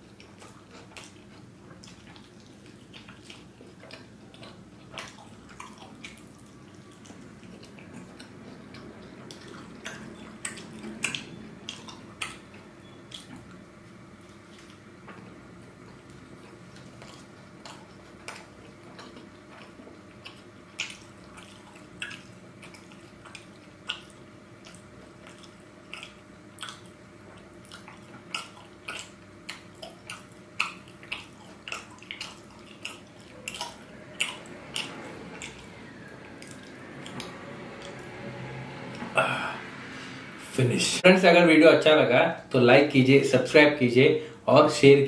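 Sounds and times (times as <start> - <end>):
chewing with wet mouth clicks: 0.0 - 13.6, 14.2 - 38.2.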